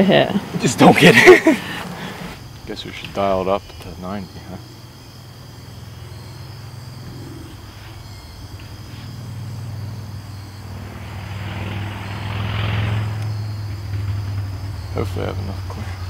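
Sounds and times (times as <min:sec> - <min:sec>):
crickets chirping: 0:00.0 - 0:16.0
vehicle engine hum and tyre noise: 0:00.0 - 0:16.0.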